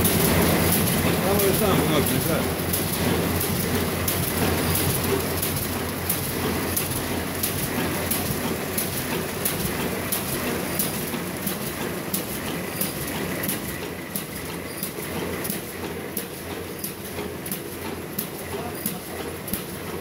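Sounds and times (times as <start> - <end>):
machine mechanical clatter: 0.0 - 20.0.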